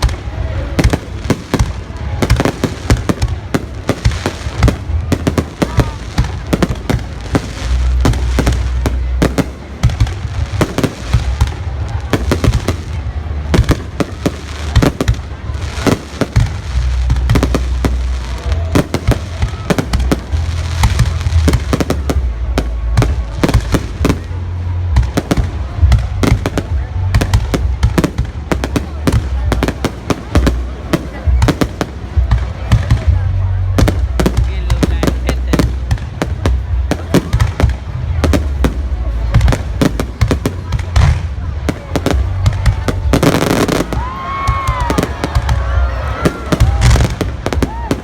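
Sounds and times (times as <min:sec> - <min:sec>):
fireworks bangs and crackles: 0:00.0 - 0:48.0.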